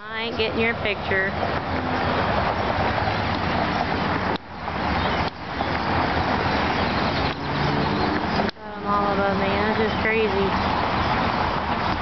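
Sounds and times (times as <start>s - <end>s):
large flock of birds chattering: 0.1s - 12.0s.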